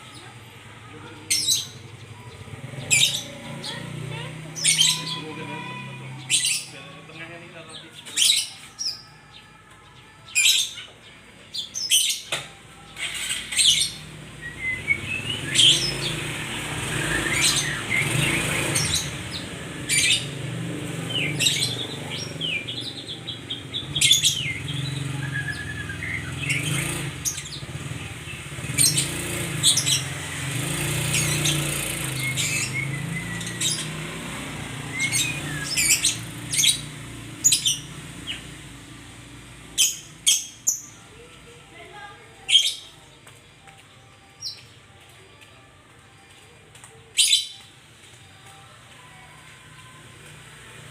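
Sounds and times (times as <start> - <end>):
songbird calling and singing: 1.2 - 7.1, 7.7 - 41.4, 42.5 - 45.0, 47.1 - 50.6.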